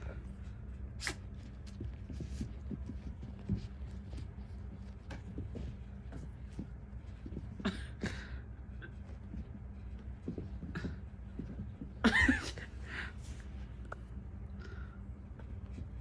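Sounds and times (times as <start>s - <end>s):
cats scuffling on carpet: 0.0s - 16.0s.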